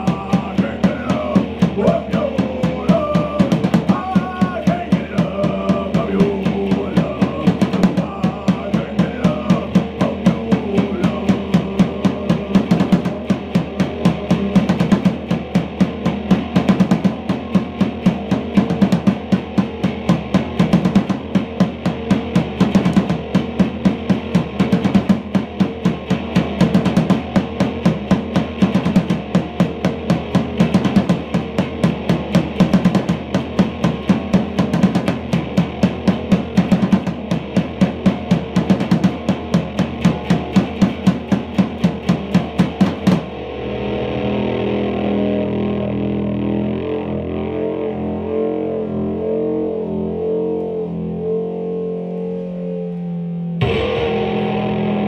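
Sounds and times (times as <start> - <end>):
fast punk drums: 0.0 - 43.6, 53.6 - 55.0
electric guitar chords: 0.0 - 55.0.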